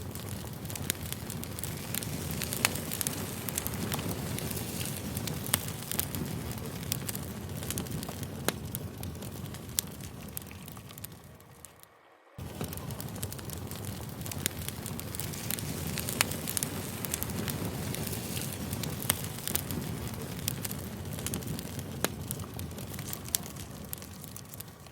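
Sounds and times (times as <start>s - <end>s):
campfire crackling and popping: 0.0s - 24.9s
low steady rumble: 0.0s - 24.9s.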